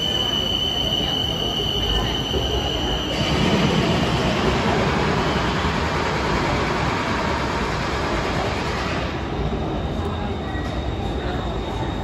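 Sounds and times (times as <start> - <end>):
electric metro train rumbling: 0.0 - 12.0.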